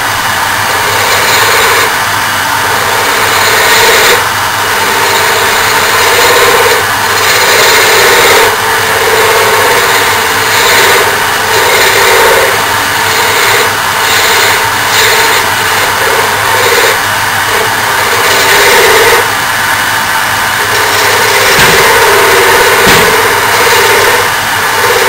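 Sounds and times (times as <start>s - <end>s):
turning tool cutting wood: 0.0s - 25.0s
wood lathe rushing noise: 0.0s - 25.0s.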